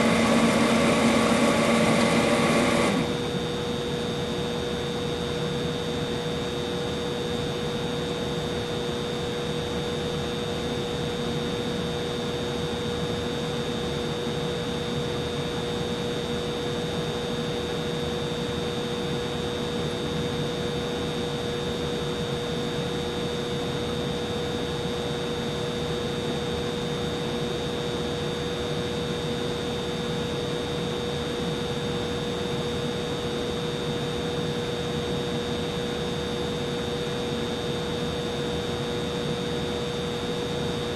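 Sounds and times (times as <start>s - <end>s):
humidifier whirring: 0.0s - 40.9s.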